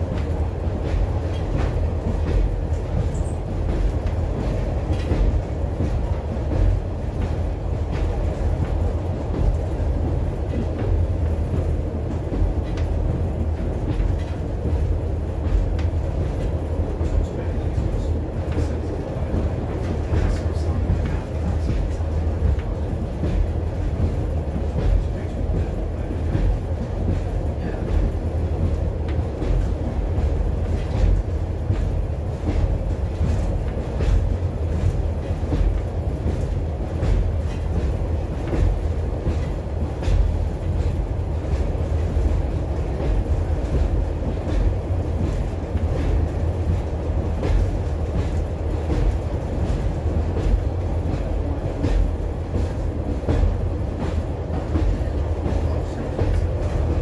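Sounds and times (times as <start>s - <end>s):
train low rumble: 0.0s - 57.0s
wheels clicking on track: 0.0s - 57.0s.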